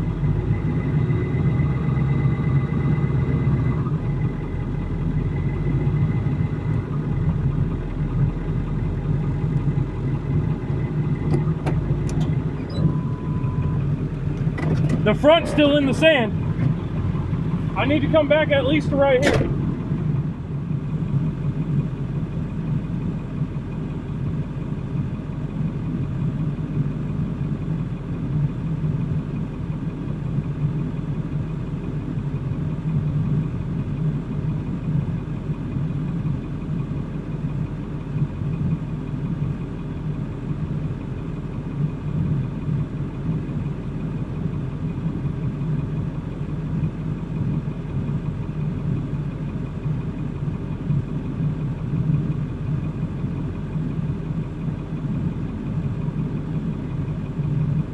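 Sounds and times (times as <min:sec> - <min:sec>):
vehicle engine idling: 0:00.0 - 0:57.9.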